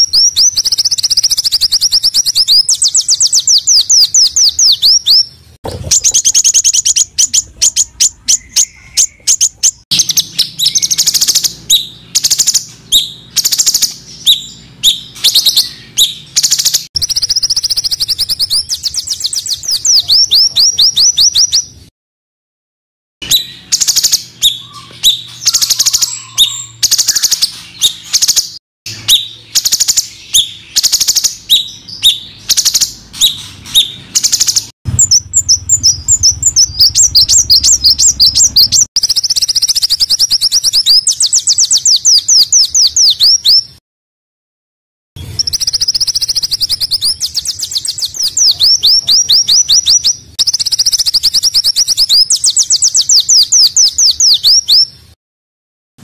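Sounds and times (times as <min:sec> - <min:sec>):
songbirds chirping fast: 0:00.0 - 0:21.9, 0:23.2 - 0:43.8, 0:45.2 - 0:55.2.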